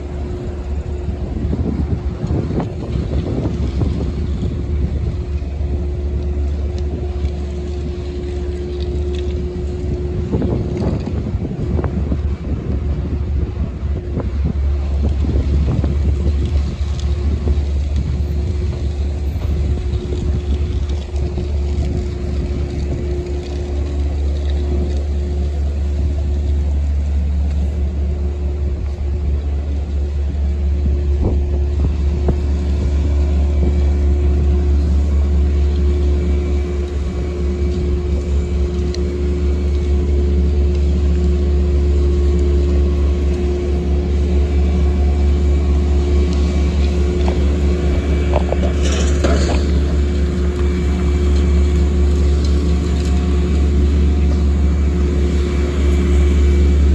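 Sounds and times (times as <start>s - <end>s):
constant droning tone: 0.0s - 56.9s
road vehicle rumbling: 0.0s - 56.9s.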